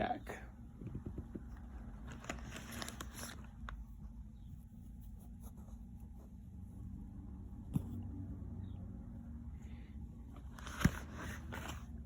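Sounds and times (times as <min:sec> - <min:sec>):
low steady hum: 0:00.0 - 0:12.0
faint handling noises: 0:00.7 - 0:08.4, 0:09.1 - 0:12.0.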